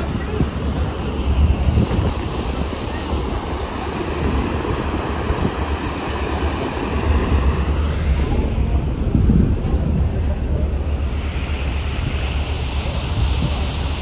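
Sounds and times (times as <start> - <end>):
boat engine drone: 0.0 - 14.0
churning wake rushing: 0.0 - 14.0
wind buffeting microphone: 0.0 - 14.0.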